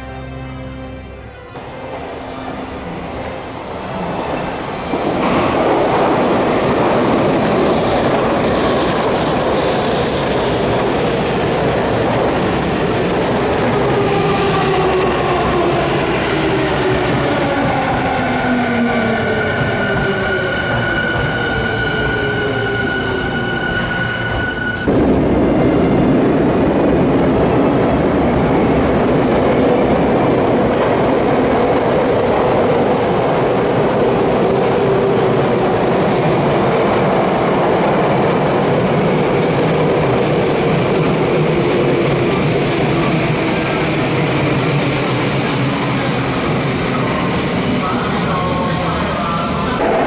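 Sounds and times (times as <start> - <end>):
train wheels rumbling on rails: 1.5 - 50.0.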